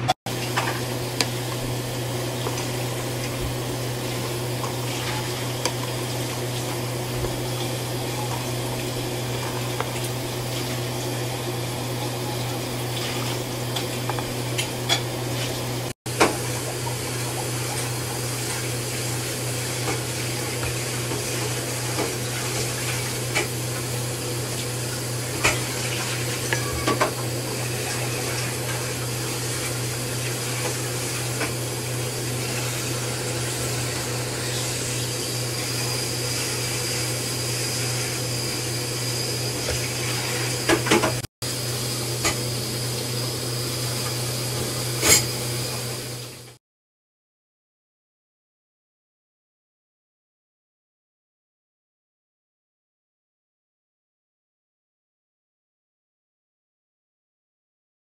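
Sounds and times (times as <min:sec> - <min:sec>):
pot boiling: 0:00.0 - 0:46.6.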